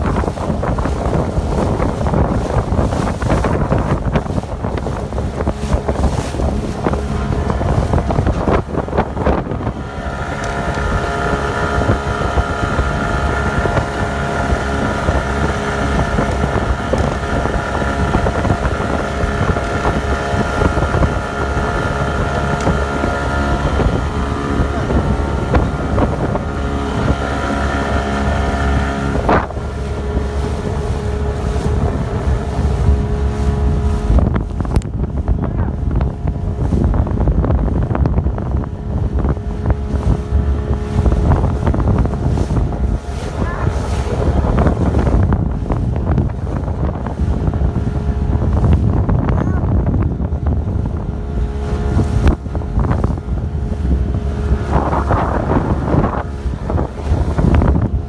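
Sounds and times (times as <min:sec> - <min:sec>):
motorboat engine hum: 0:00.0 - 0:58.0
rushing water: 0:00.0 - 0:58.0
wind buffeting microphone: 0:00.0 - 0:58.0.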